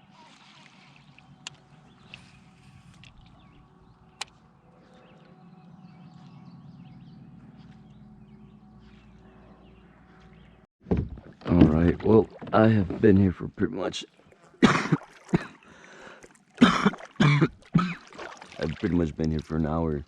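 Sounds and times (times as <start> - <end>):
rumble of wind and water: 0.0 - 20.0.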